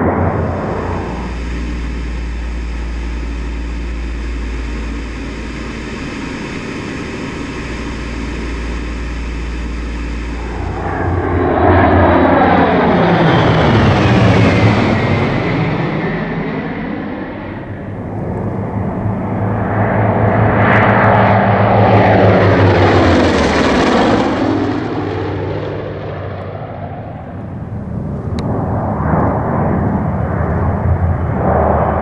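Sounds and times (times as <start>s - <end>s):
aircraft engines droning: 0.0s - 32.0s
planes passing overhead: 0.0s - 32.0s.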